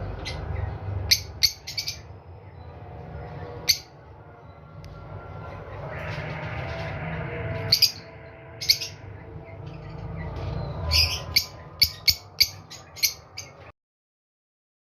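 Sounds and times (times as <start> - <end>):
low background hum: 0.0 - 13.7.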